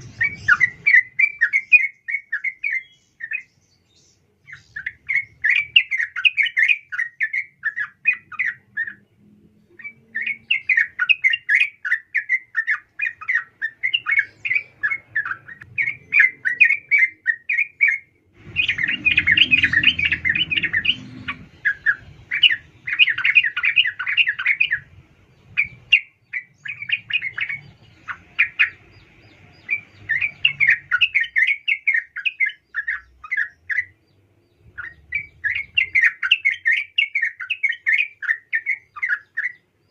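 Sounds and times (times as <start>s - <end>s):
bulbul chattering calls: 0.0s - 3.7s, 4.4s - 9.0s, 9.8s - 39.9s.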